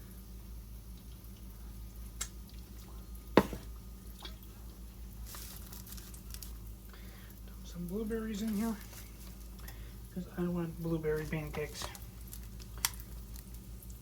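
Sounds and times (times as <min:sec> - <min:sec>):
batter dripping into pan: 0:00.0 - 0:08.5, 0:11.2 - 0:14.0
steady low hum: 0:00.0 - 0:14.0.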